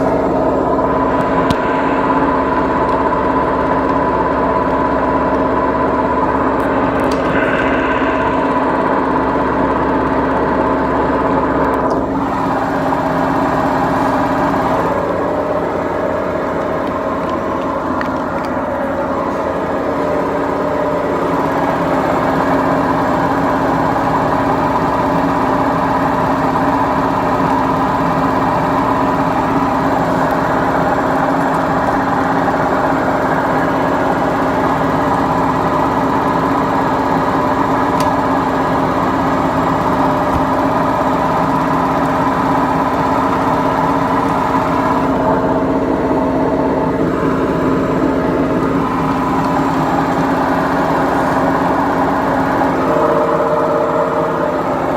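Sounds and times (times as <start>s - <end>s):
washing machine mechanical drone: 0.0s - 54.9s.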